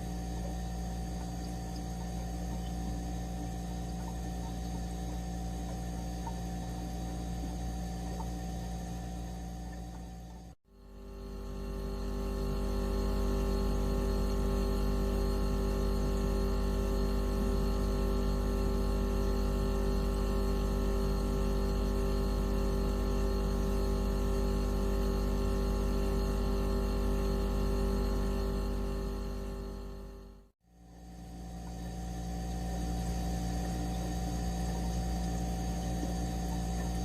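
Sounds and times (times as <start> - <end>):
drone of stacked sine tones: 0.0 - 37.0.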